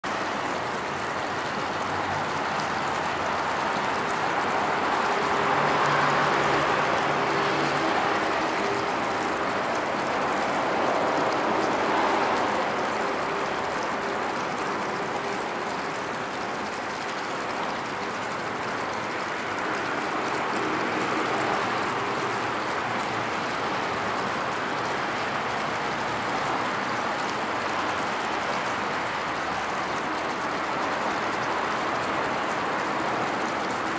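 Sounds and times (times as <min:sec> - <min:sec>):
traffic: 0:00.0 - 0:33.9
trains: 0:00.1 - 0:33.9.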